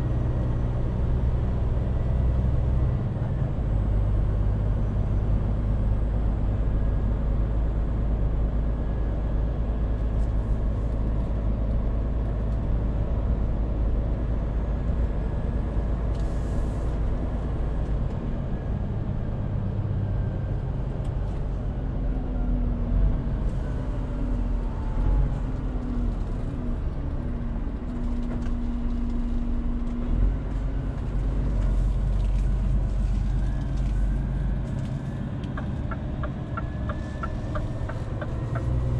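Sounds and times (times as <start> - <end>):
road noise: 0.0 - 38.9
truck diesel engine running: 0.0 - 38.9.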